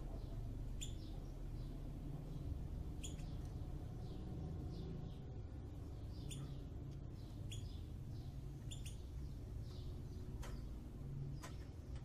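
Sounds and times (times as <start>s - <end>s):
sparrows chip calls: 0.0s - 12.0s
steady low hum: 0.0s - 12.0s.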